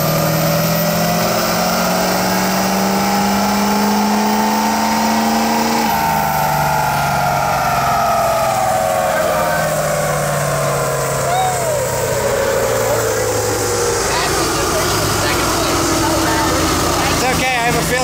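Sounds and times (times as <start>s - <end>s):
diesel engine pulling at full load: 0.0s - 18.0s.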